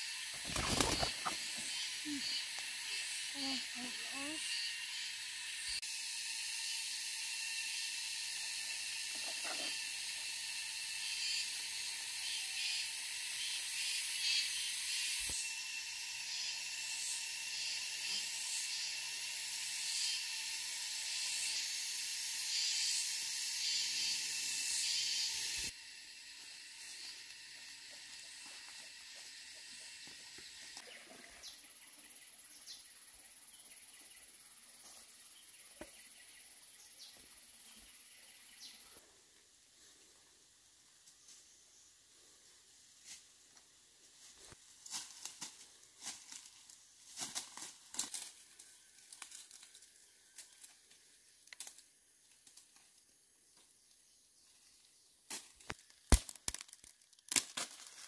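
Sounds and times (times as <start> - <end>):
high-pitched insect chorus: 0.0 - 55.8.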